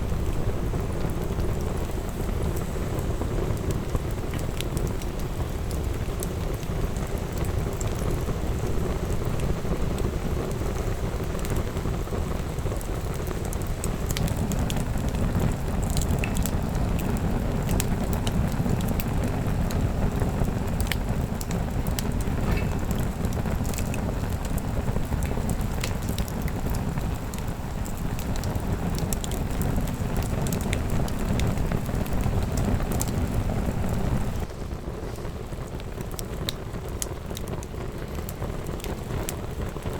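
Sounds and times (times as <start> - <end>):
rush of flames: 0.0 - 39.9
wood crackling and popping: 0.0 - 39.9.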